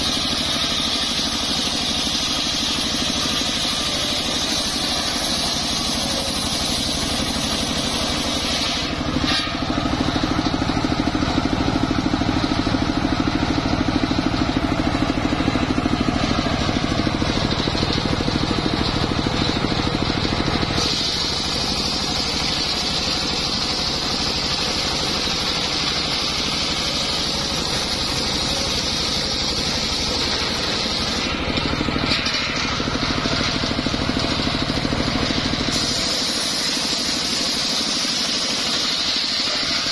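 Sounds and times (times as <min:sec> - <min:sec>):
circular saw cutting wood: 0:00.0 - 0:39.9
engine running: 0:00.0 - 0:39.9.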